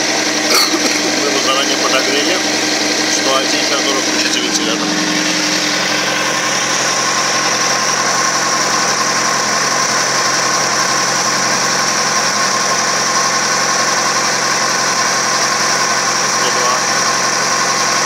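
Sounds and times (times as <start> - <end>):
motorcycle engine idling: 0.0 - 18.0
radiator fan whirring: 0.0 - 18.0.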